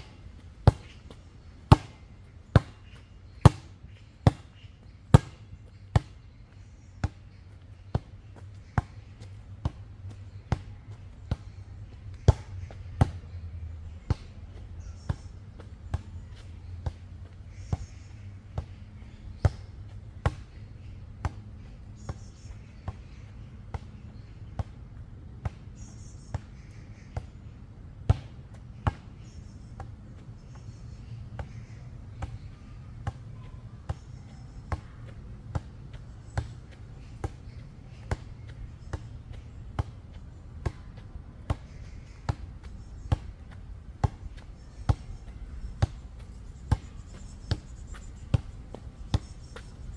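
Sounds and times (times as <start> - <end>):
ball bouncing on dirt path: 0.0 - 24.8, 28.0 - 49.9.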